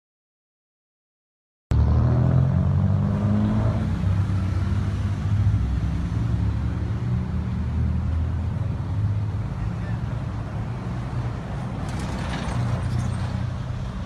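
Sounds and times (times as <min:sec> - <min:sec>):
cars driving past: 0:01.7 - 0:14.0.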